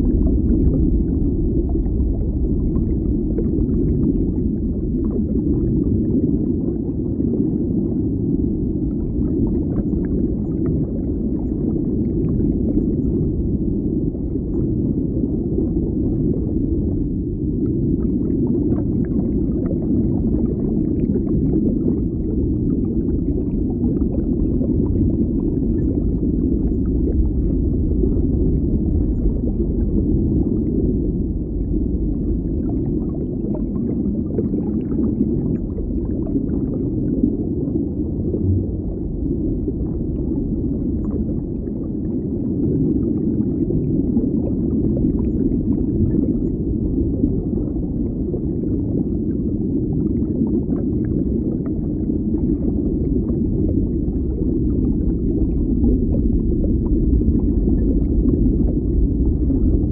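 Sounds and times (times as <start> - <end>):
low underwater rumble: 0.0 - 59.9.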